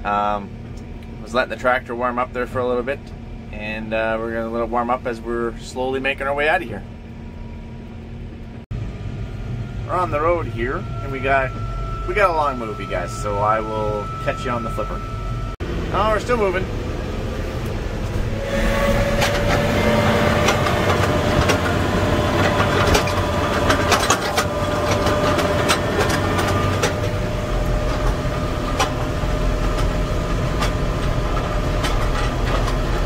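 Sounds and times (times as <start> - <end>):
steady high whine: 0.0 - 33.0
tractor engine rumble: 0.0 - 33.0.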